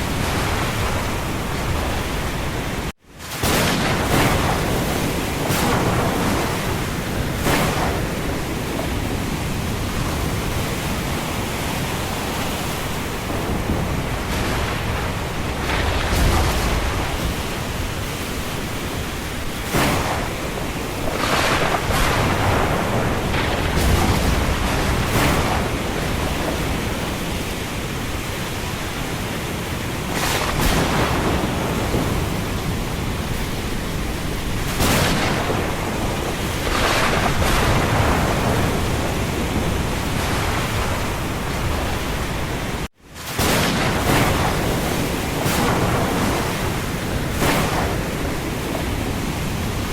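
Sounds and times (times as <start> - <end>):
thunder rumbles: 0.0 - 29.2, 29.8 - 49.9
rain: 0.0 - 49.9
wind gusting: 0.0 - 49.9.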